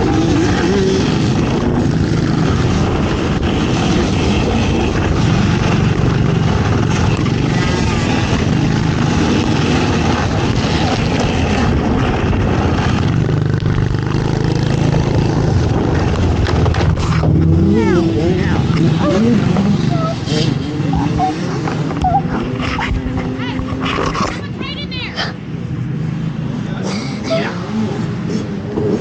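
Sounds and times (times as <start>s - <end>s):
quad engine running: 0.0s - 29.0s
rushing noise: 0.0s - 29.0s.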